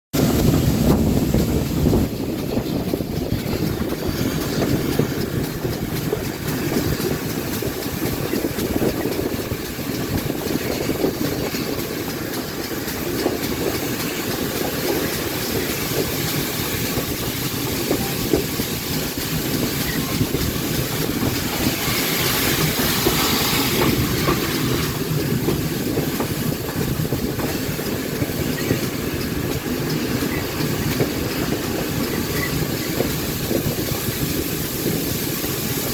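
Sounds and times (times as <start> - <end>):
train wheels clattering over rail joints: 0.1 - 35.9
loud high steam hiss: 0.2 - 35.9.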